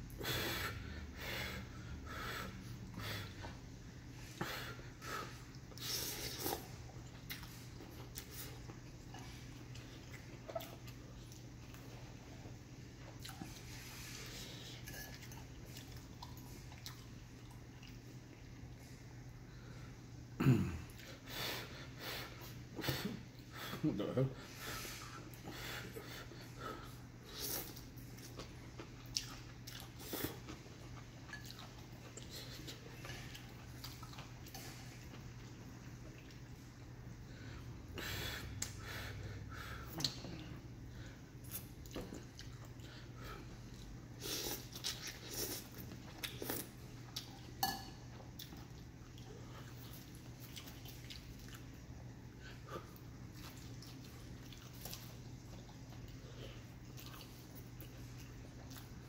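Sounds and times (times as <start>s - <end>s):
steady low hum: 0.0s - 59.0s
man chewing noodle soup: 0.1s - 18.9s, 24.5s - 59.0s.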